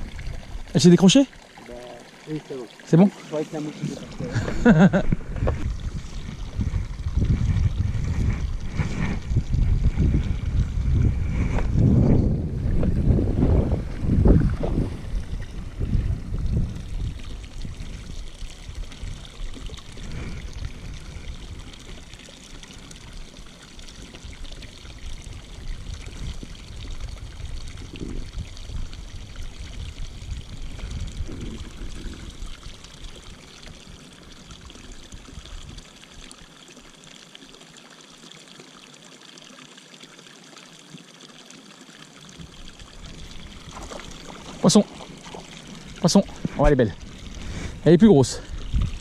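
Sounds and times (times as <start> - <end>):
water pouring into pond: 0.0 - 49.0.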